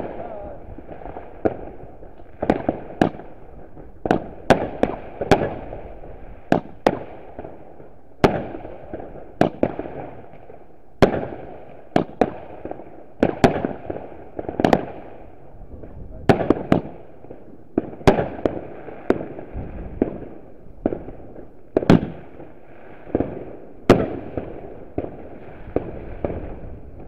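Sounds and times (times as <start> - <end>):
distant fireworks crackle: 0.0 - 27.0
fireworks bangs echoing: 0.0 - 27.0.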